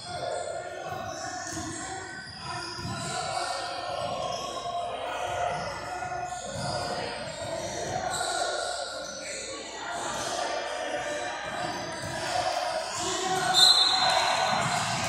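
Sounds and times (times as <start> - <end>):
scattered voices: 0.0 - 15.0.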